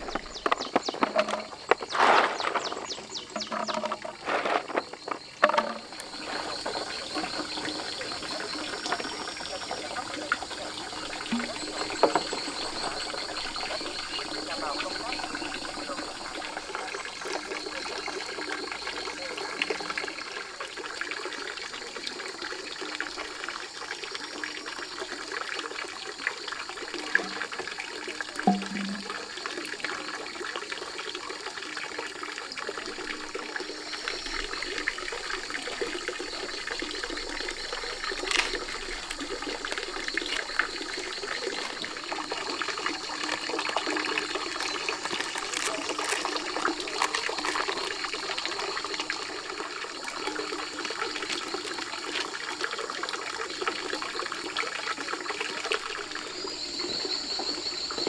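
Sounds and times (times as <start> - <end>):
running water trickling: 0.0 - 58.0.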